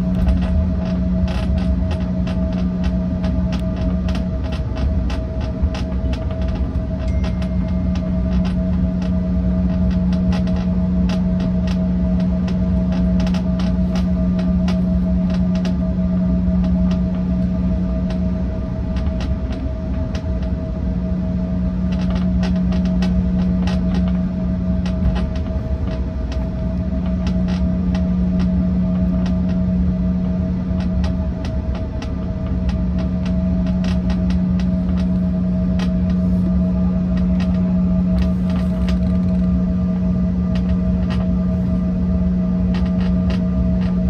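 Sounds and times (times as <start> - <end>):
jet engine hum: 0.0 - 44.0
cabin trim creaks and clicks: 0.1 - 15.9, 21.9 - 29.7, 30.7 - 41.8, 42.4 - 44.0.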